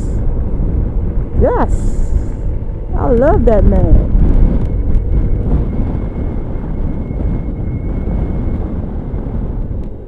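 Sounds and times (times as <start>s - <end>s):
road noise rumble: 0.0s - 10.0s
wind buffeting microphone: 0.0s - 10.0s.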